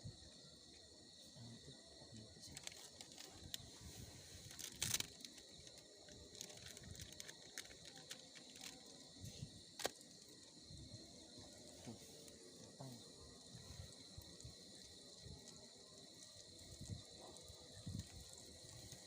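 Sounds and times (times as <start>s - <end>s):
high-pitched insect chirring: 0.1s - 19.0s.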